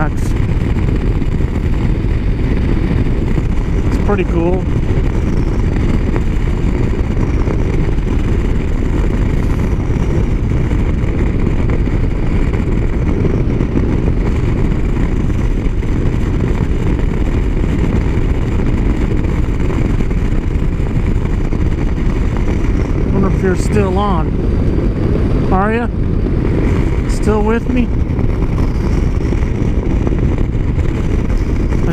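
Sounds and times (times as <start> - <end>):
motorcycle engine: 0.0 - 31.9
wind: 0.0 - 31.9.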